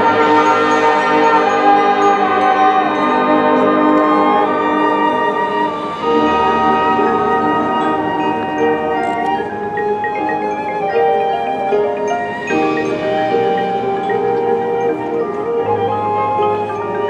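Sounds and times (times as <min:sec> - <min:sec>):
marching band playing held chords: 0:00.0 - 0:17.0.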